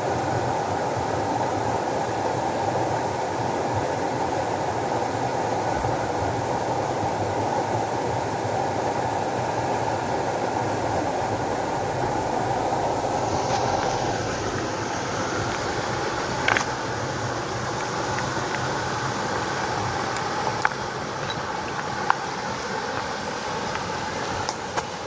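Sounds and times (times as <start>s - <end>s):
water rushing: 4.0s - 25.0s.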